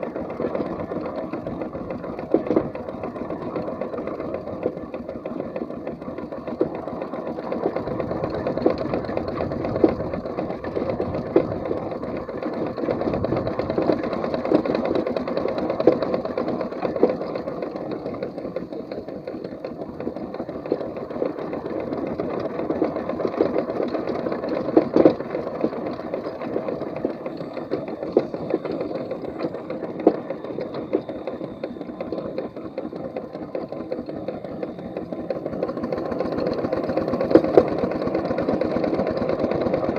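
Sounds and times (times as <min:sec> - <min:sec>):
steam engine mechanical chatter: 0:00.0 - 0:39.9.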